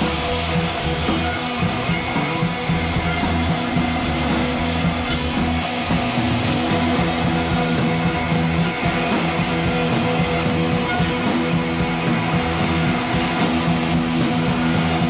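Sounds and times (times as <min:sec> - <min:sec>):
rock guitar music: 0:00.0 - 0:15.0.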